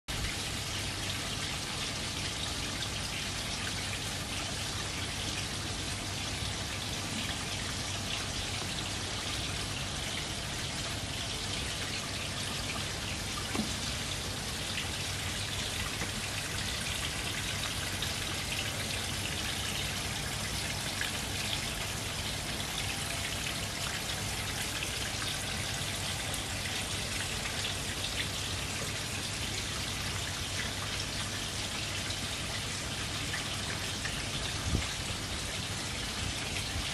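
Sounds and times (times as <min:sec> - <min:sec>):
water splashing and trickling: 0:00.1 - 0:36.9.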